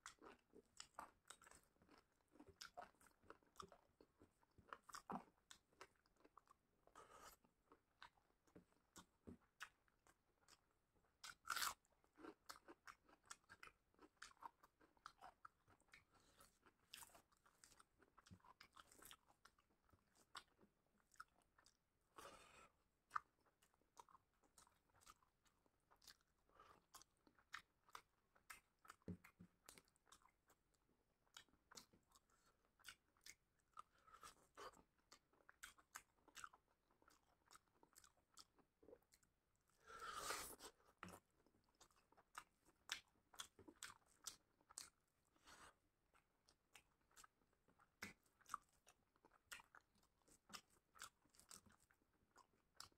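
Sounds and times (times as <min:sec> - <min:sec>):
chewing and biting food: 0:00.0 - 0:52.9.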